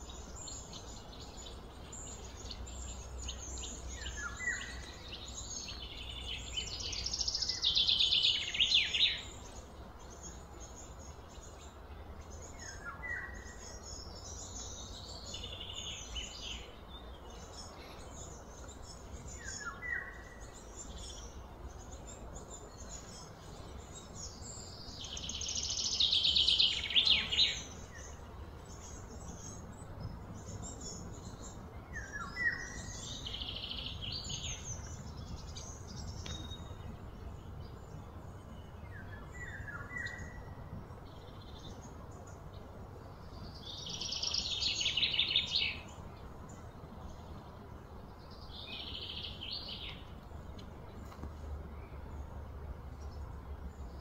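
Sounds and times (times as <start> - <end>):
birds trilling and chirping: 0.0 - 54.0
low outdoor hum: 0.0 - 54.0.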